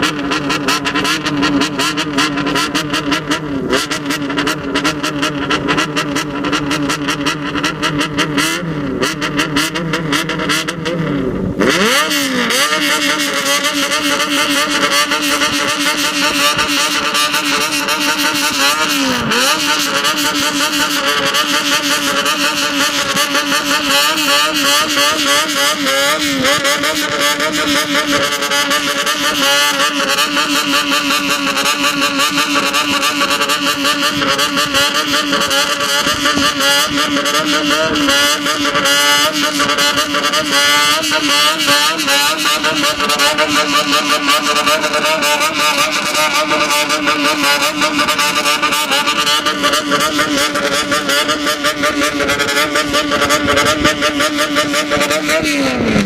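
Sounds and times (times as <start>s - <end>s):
engine exhaust revving: 0.0s - 56.0s.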